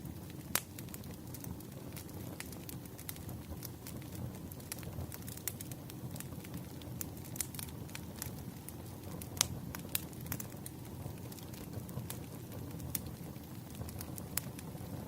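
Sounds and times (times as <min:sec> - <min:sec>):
burning logs rumbling: 0:00.0 - 0:15.0
fire popping and snapping: 0:00.0 - 0:15.0.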